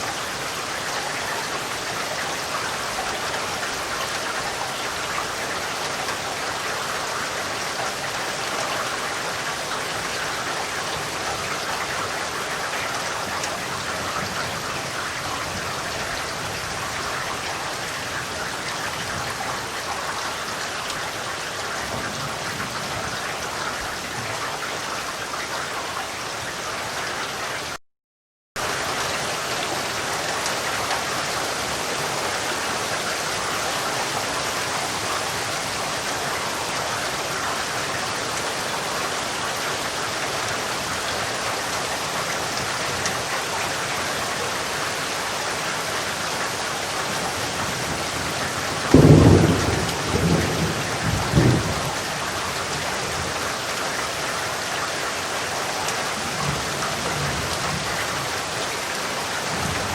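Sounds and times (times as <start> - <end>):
rain falling: 0.0 - 27.8, 28.6 - 59.9.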